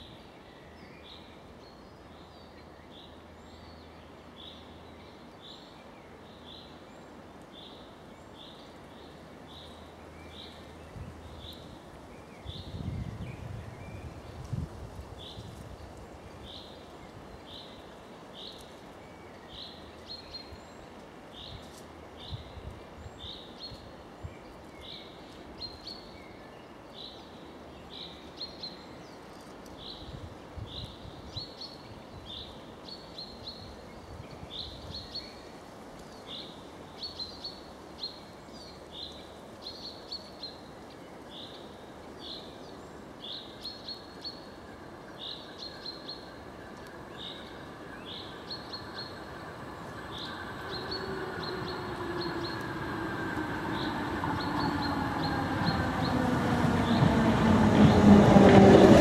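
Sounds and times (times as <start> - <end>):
forest ambience hiss: 0.0 - 57.0.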